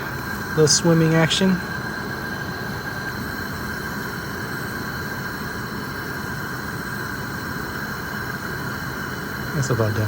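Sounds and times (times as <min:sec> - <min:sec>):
camp stove burner hissing: 0:00.0 - 0:10.0.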